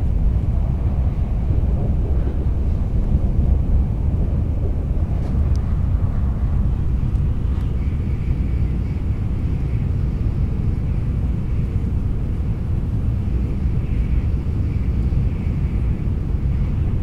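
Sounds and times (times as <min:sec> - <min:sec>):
train rumble inside cabin: 0:00.0 - 0:17.0.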